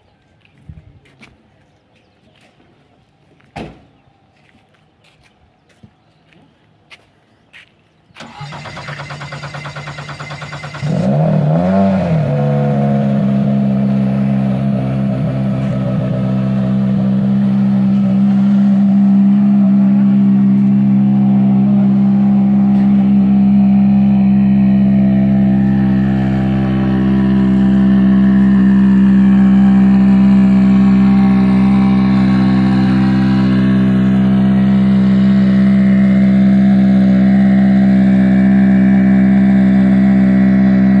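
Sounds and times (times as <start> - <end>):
car engine starting and idling: 8.2 - 41.0.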